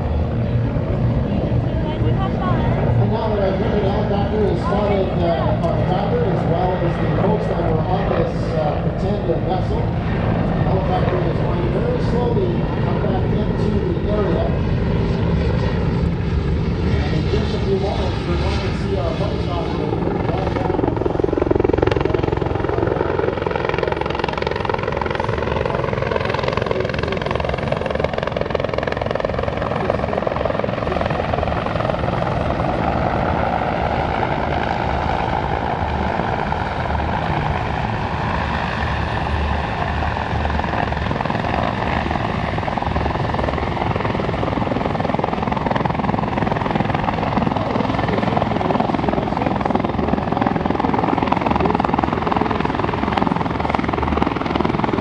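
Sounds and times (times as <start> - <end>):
helicopter rotor beating: 0.0 - 55.0
turbine engine whine: 0.0 - 55.0.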